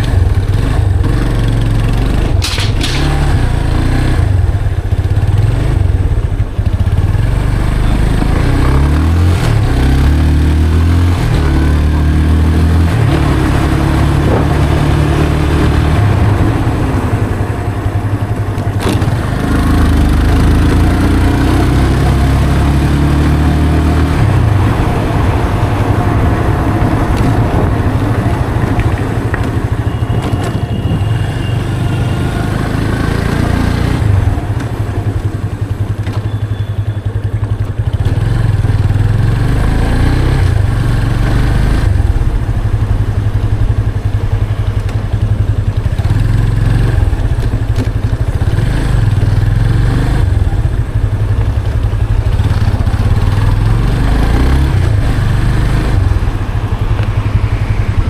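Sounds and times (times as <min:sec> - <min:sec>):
motorcycle engine on the road: 0:00.0 - 0:58.0.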